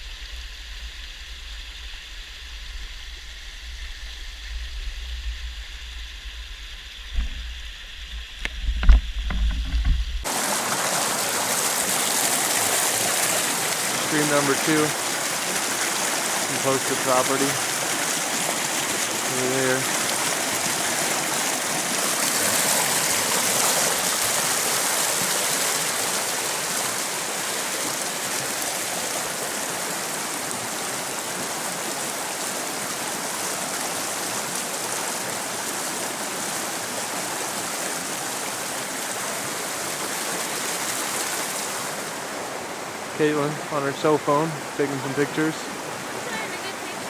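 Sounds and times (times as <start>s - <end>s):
forest stream rushing: 9.2s - 47.0s.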